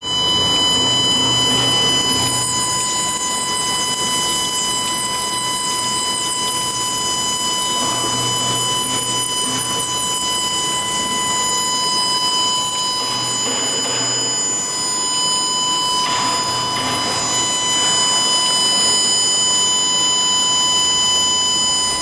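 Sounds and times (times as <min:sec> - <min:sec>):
welding machine whine: 0:00.0 - 0:22.0.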